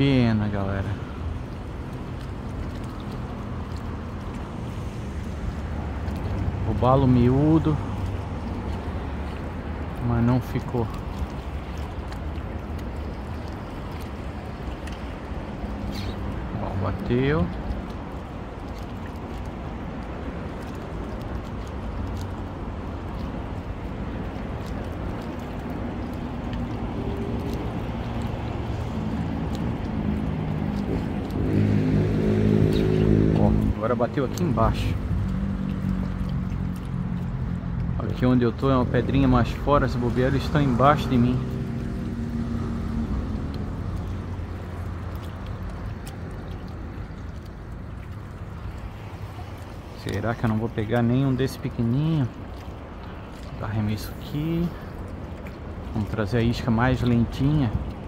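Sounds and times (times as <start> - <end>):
wind and sea rumble: 0.0 - 58.0
motor engine hum: 1.0 - 58.0.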